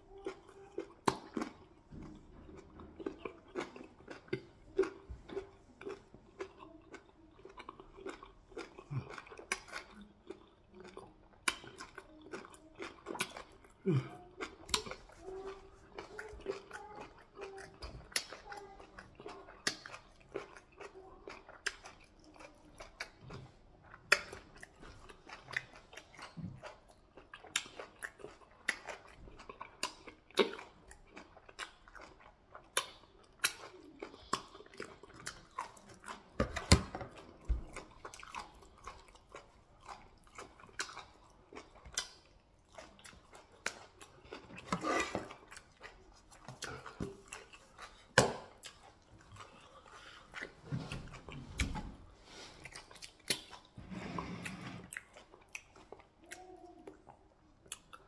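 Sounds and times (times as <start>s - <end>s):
wet chewing and biting: 0.2s - 53.8s.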